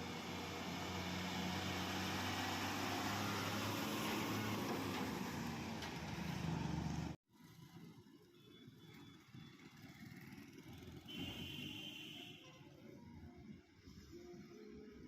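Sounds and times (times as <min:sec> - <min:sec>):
road and tyre noise: 0:00.0 - 0:15.0.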